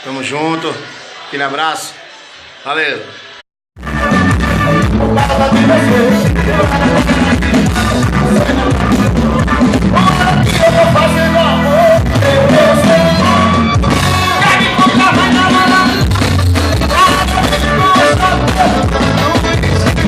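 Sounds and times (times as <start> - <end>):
live band music: 3.8 - 20.0.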